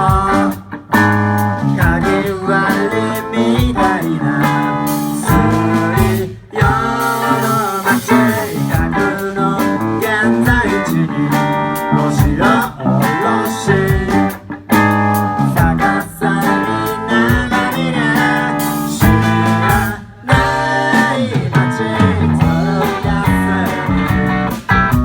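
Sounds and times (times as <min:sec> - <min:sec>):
person singing: 0:00.0 - 0:24.7
guitar: 0:00.0 - 0:25.0.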